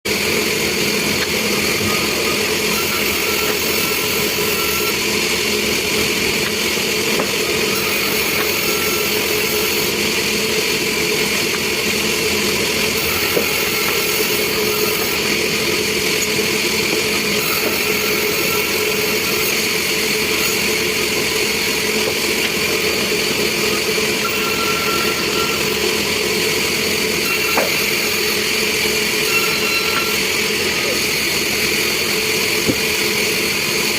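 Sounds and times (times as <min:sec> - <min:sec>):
sawmill machinery running: 0:00.1 - 0:33.9.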